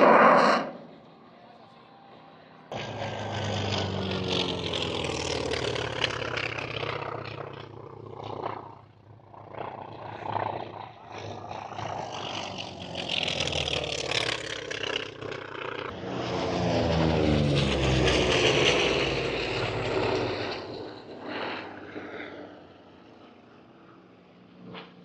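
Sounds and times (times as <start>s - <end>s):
airplane flying past: 0.0s - 25.0s.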